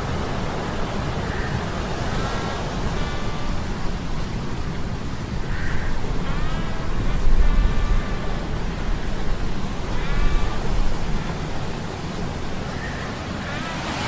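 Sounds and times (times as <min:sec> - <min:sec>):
wind and surf rumble: 0:00.0 - 0:14.0.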